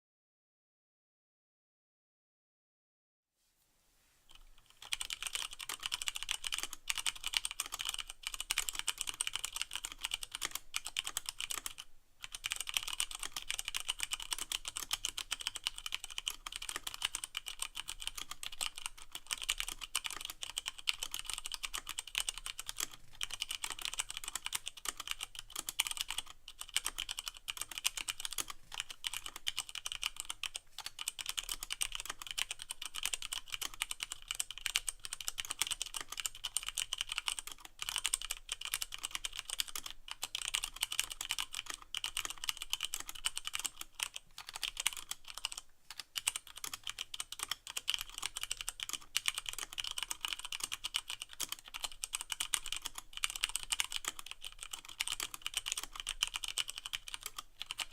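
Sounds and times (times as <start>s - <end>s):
fast typing on mechanical keyboard: 4.3s - 57.9s.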